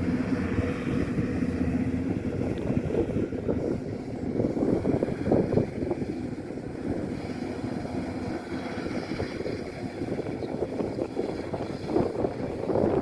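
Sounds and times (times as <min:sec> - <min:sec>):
combine harvester rumbling: 0:00.0 - 0:13.0
wind buffeting microphone: 0:00.0 - 0:13.0.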